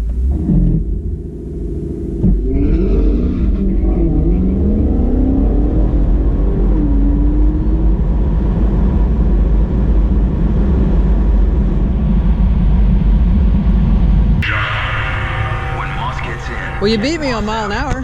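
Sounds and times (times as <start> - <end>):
car engine accelerating hard: 0.0 - 18.0
wind noise: 2.2 - 18.0.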